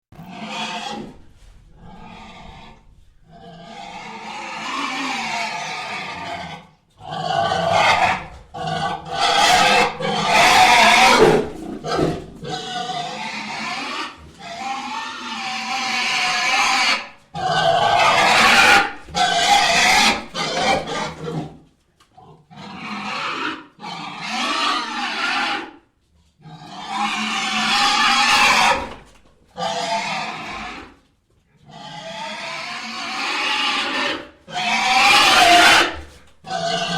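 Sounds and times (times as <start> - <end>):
pig squeals: 0.2 - 1.2, 1.8 - 21.5, 22.5 - 25.8, 26.4 - 29.0, 29.6 - 31.0, 31.7 - 36.9.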